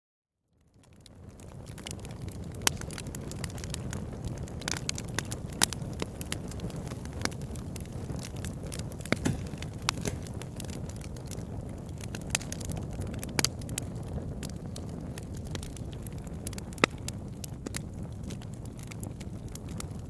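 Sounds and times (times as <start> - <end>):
campfire flames rumbling: 0.6 - 20.0
wood crackling and popping: 0.7 - 20.0.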